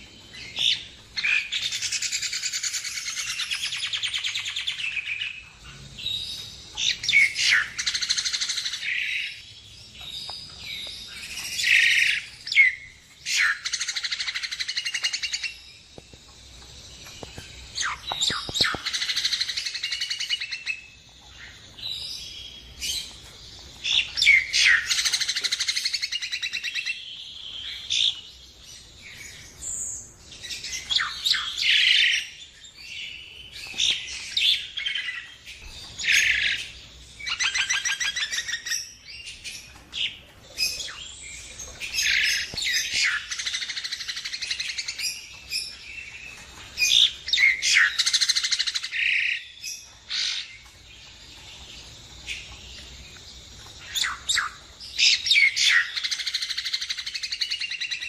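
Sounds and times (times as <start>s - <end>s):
bird singing with chatters and trills: 0.0s - 58.0s.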